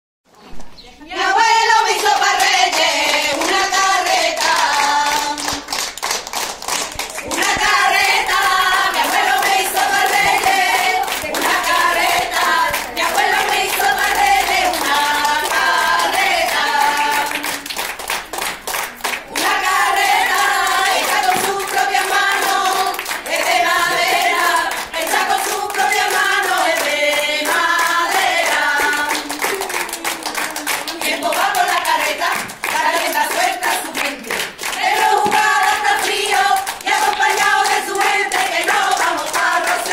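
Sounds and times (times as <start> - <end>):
children and women singing: 1.0 - 39.9
hands clapping: 1.9 - 39.9.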